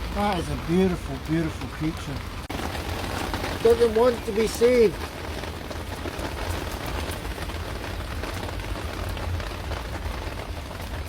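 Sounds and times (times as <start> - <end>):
heavy rain hitting hard surfaces: 0.0 - 11.0.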